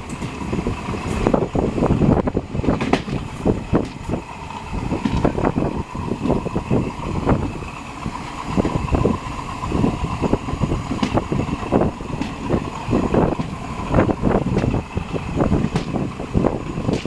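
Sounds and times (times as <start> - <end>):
train rumbling: 0.0 - 17.0
wheels clacking over track: 0.0 - 17.0.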